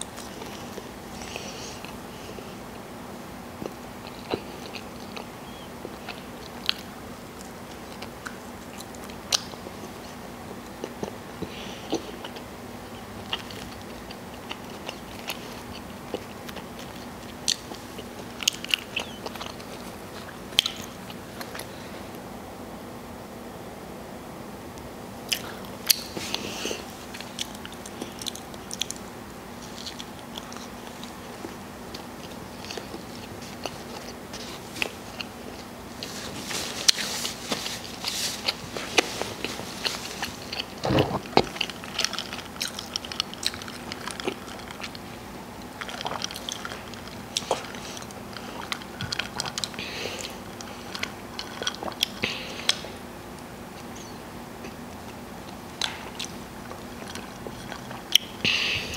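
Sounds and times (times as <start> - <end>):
biting and chewing food: 0.0 - 22.2, 25.3 - 58.9.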